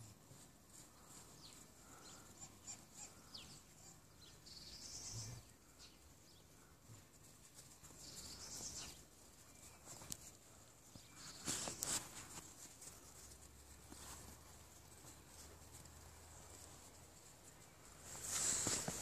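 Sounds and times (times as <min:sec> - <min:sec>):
soft crunchy hiss: 0:00.0 - 0:19.0.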